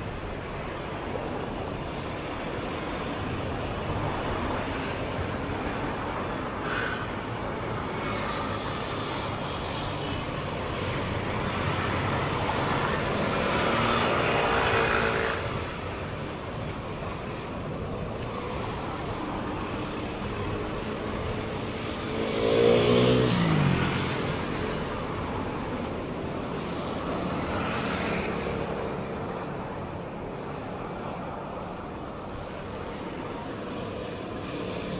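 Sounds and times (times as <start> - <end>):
traffic hum: 0.0 - 34.9
vehicles passing close: 1.5 - 34.9.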